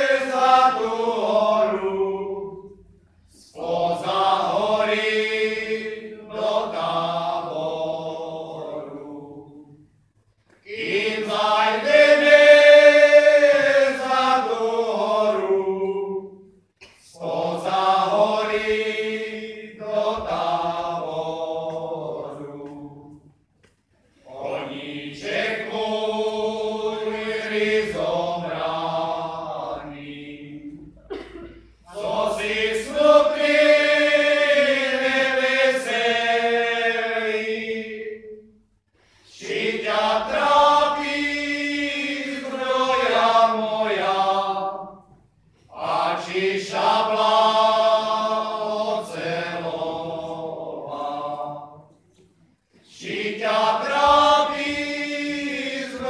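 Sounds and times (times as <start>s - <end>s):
male choir singing a cappella: 0.0s - 9.9s, 10.6s - 23.3s, 24.2s - 31.2s, 31.9s - 38.6s, 39.2s - 56.0s.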